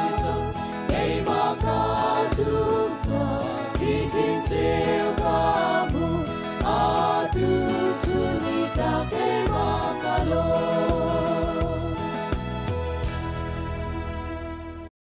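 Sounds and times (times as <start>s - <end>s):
group singing gospel: 0.0s - 12.3s
drum kit beat: 0.0s - 13.2s
band playing: 0.0s - 14.3s.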